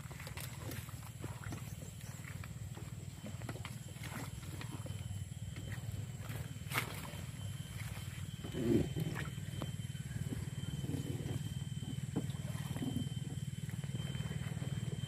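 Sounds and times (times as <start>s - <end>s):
small boat engine humming: 0.0s - 15.0s.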